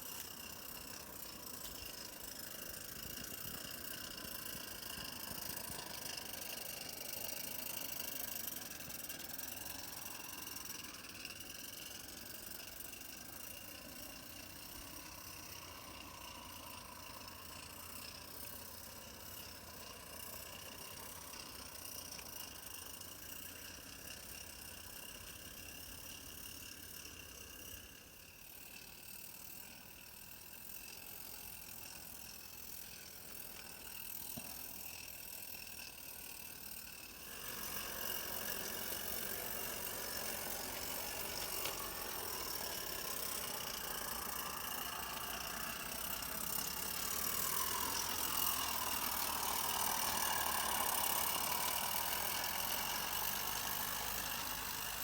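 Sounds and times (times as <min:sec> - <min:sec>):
train running: 0:00.0 - 0:55.0.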